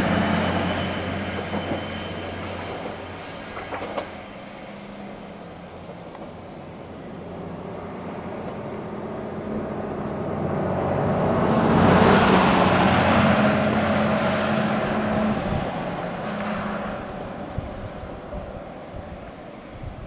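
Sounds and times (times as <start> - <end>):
diesel railcar engine humming: 0.0 - 20.0.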